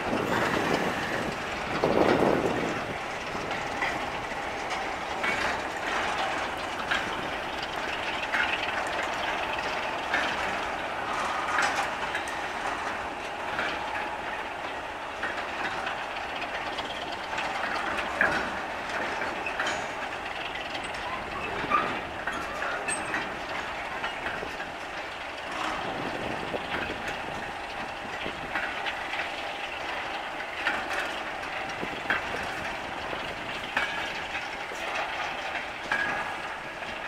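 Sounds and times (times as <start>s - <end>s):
train wheels rumbling on track: 0.0s - 37.0s
wheels clicking over rail joints: 0.0s - 37.0s.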